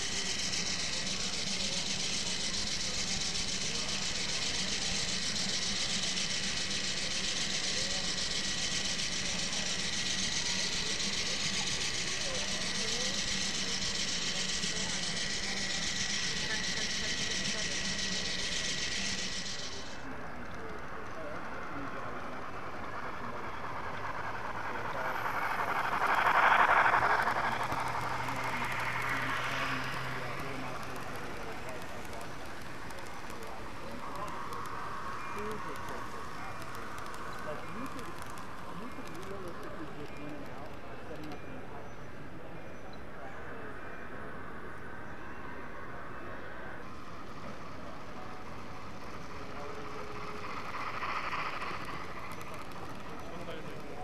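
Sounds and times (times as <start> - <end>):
indistinct voices murmuring: 0.0 - 54.0
mechanical drone: 0.0 - 54.0
model train passing: 0.0 - 54.0.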